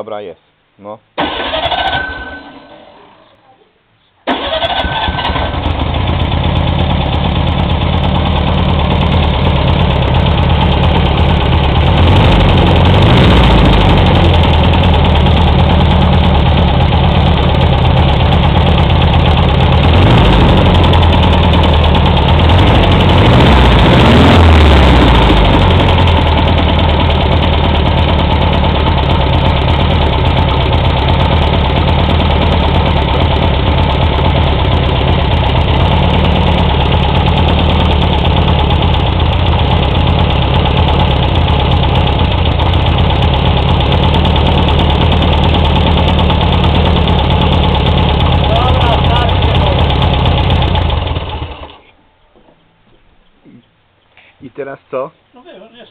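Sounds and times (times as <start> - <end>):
car engine starting and running: 1.2 - 2.4, 4.3 - 52.0.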